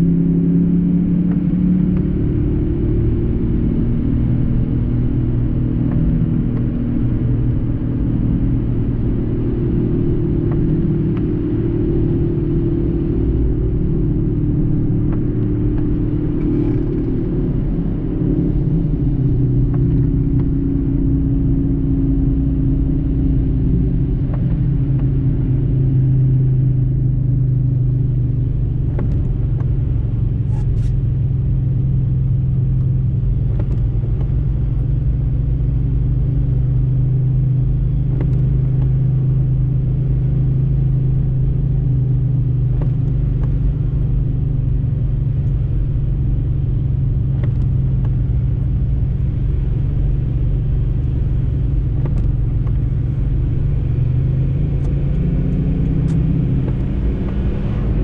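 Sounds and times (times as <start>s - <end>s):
low engine hum: 0.0s - 58.0s
tyre and road noise: 3.4s - 23.1s, 26.7s - 58.0s.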